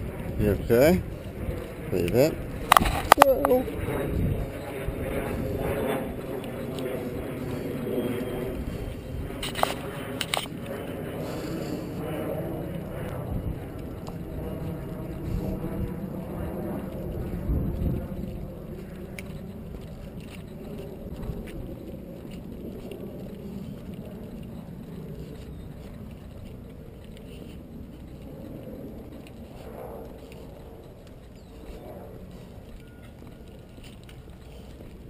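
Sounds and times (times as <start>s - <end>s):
outdoor street noise: 1.0s - 35.0s.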